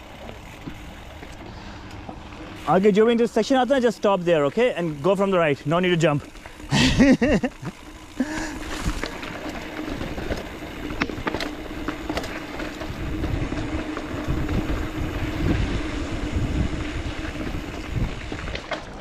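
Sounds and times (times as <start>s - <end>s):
bike clicks and rattles: 0.0s - 19.0s
bike tyres on dirt: 0.0s - 19.0s
steady hum: 0.0s - 19.0s.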